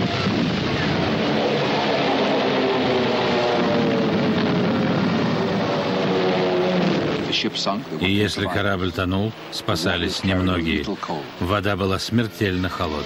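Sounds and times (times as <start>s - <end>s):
dense steady noise: 0.0s - 13.0s
warplane engine: 0.0s - 13.0s.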